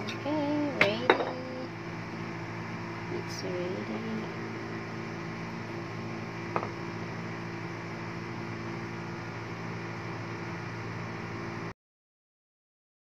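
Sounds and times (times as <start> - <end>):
low electrical hum: 0.0 - 11.7.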